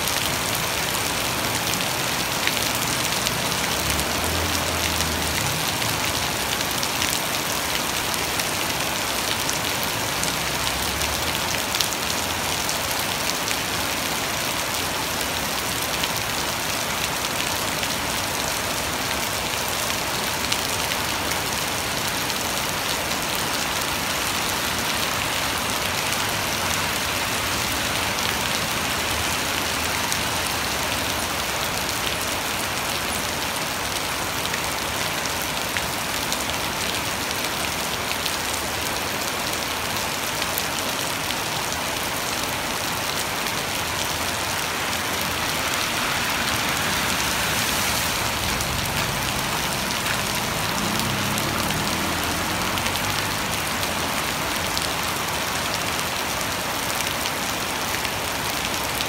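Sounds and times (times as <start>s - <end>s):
heavy rain splashing on water: 0.0s - 59.0s.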